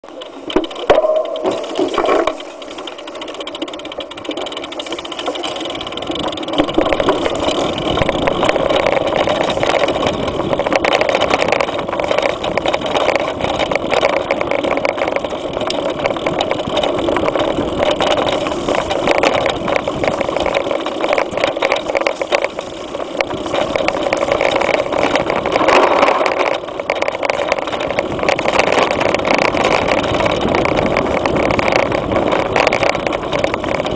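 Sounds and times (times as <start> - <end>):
bike rattling over bumps: 0.0 - 33.9
tyres on dirt: 0.0 - 33.9.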